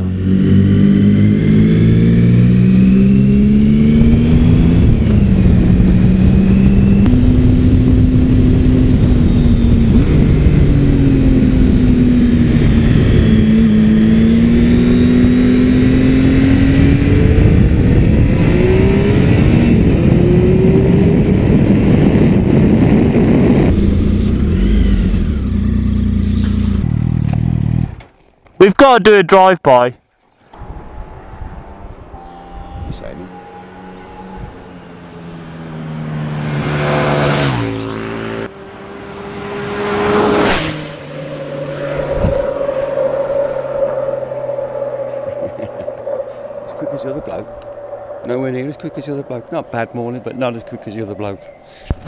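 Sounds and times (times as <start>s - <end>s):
motorcycle engine accelerating: 0.0s - 28.2s, 30.6s - 52.0s
wind and road noise: 0.0s - 52.0s.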